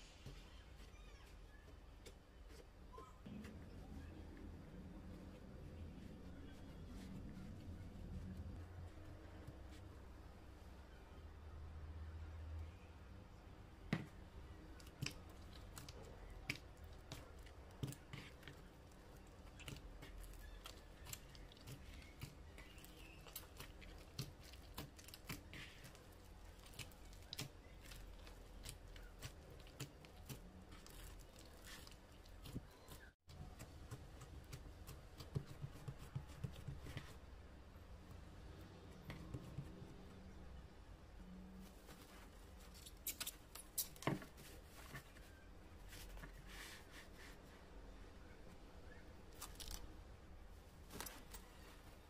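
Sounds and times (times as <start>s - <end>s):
hands kneading sticky dough: 0.0s - 11.0s, 13.4s - 52.0s.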